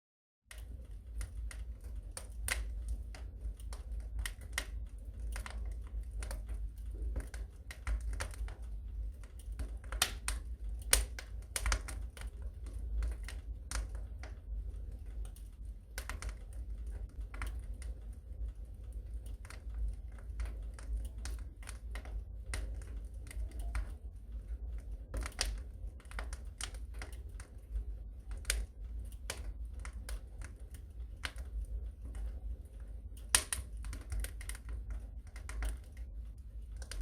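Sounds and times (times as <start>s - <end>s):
fireplace fire crackling: 0.5s - 37.0s
low rumble of fire: 0.5s - 37.0s.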